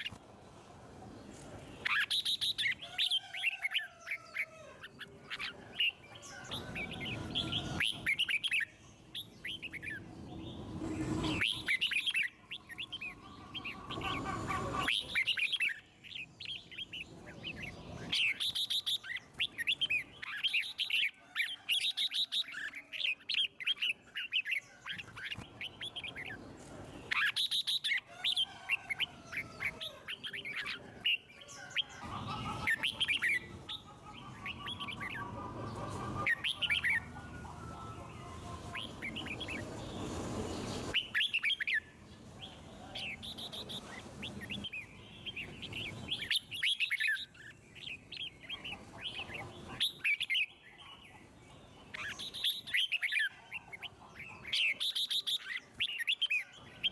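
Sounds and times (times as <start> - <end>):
bird chirping and warbling: 1.7 - 56.9.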